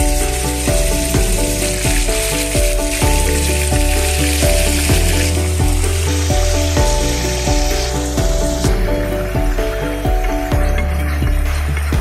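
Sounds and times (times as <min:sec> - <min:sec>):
background music: 0:00.0 - 0:12.0
chicken sizzling in oil: 0:00.0 - 0:12.0.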